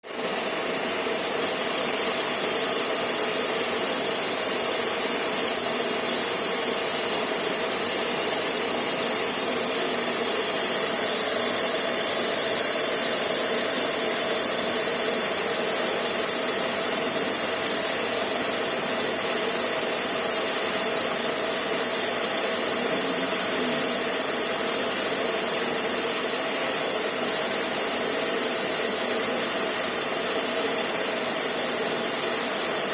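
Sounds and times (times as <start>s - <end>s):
air conditioning compressor whirring: 0.0s - 32.9s
high-pitched hiss: 0.6s - 32.9s.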